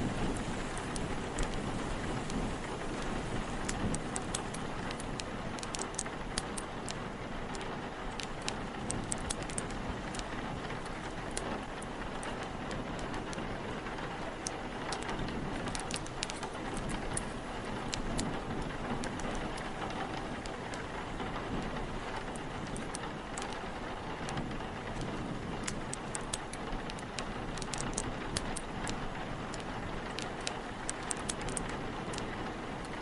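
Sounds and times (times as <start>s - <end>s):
open fire crackling: 0.0s - 33.0s
steady rain: 0.0s - 33.0s
wind: 0.0s - 33.0s.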